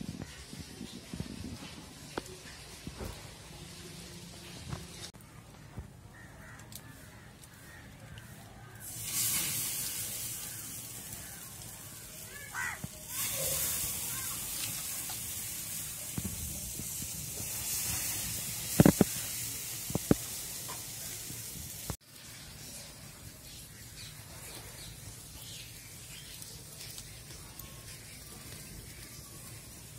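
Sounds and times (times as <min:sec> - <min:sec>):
fish sizzling on a grill: 0:00.2 - 0:05.2, 0:06.1 - 0:29.9.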